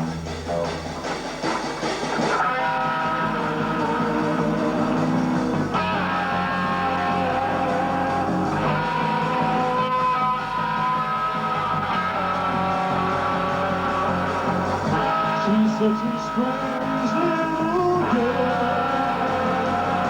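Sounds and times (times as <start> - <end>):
instrumental rock band guitar: 0.0 - 20.0.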